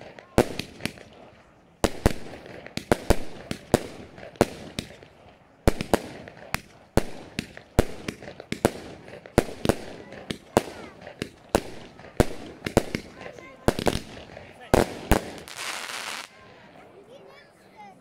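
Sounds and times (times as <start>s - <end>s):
firework bangs and bursts: 0.0s - 16.8s.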